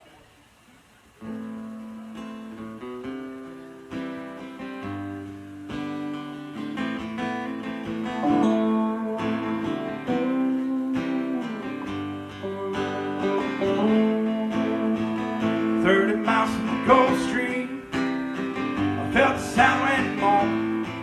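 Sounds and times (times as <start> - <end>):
acoustic guitar strumming chords: 1.2 - 21.0.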